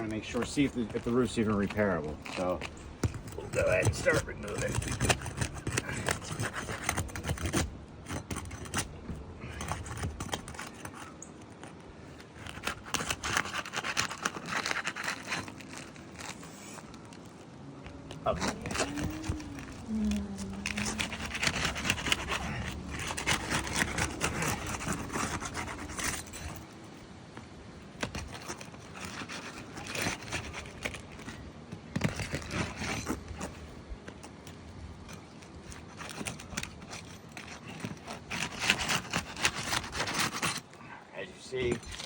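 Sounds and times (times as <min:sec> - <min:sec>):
shingles scraping and tearing: 0:00.0 - 0:42.0.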